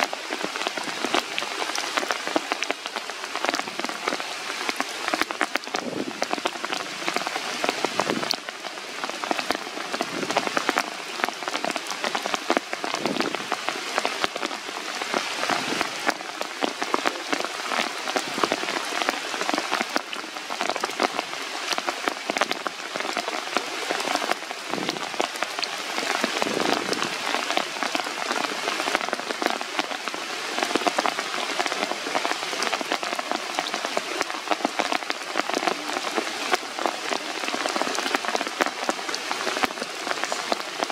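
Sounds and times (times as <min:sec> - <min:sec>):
rain falling on leaves: 0:00.0 - 0:40.9
raindrops ticking close by: 0:00.0 - 0:40.9.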